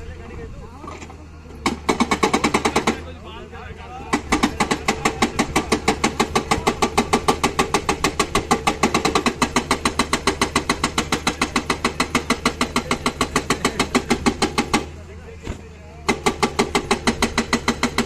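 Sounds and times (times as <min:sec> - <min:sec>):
excavator engine humming: 0:00.0 - 0:18.0
hydraulic breaker hammering: 0:01.5 - 0:03.1, 0:04.0 - 0:18.0.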